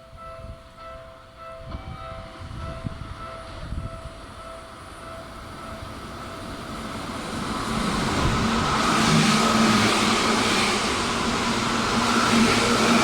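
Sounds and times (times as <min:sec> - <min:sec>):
electric train approaching: 0:00.0 - 0:13.0.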